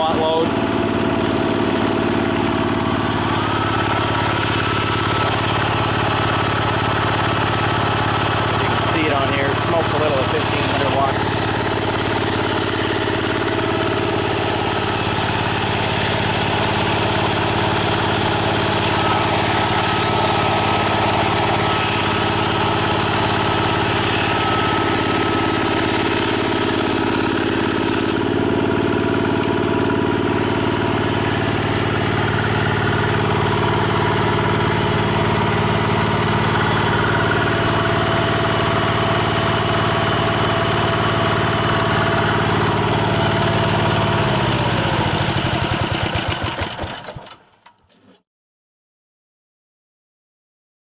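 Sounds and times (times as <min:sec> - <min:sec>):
diesel generator running: 0:00.0 - 0:47.7.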